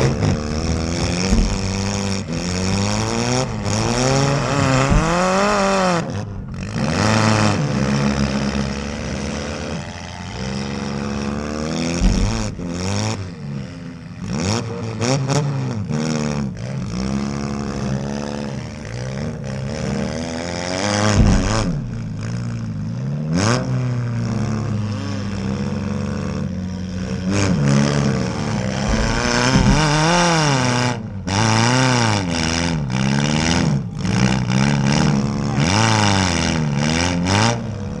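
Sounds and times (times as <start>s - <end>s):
cars crashing: 0.0s - 15.9s, 18.8s - 38.0s
car engines revving hard: 0.0s - 38.0s.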